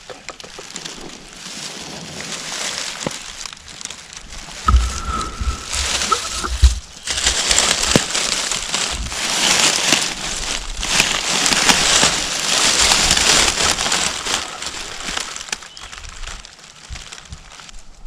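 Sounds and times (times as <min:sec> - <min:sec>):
rustling and crunching dry leaves: 0:00.0 - 0:18.0.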